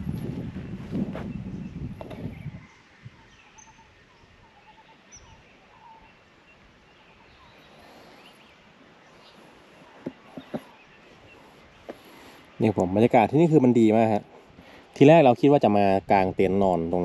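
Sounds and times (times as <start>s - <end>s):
faint bird chirps: 1.2s - 15.5s.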